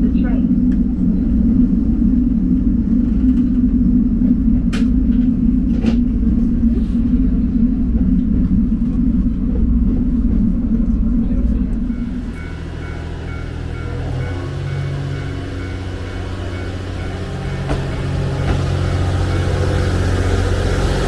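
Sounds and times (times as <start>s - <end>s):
railcar engine drone: 0.0s - 21.0s
track rumble: 0.0s - 21.0s.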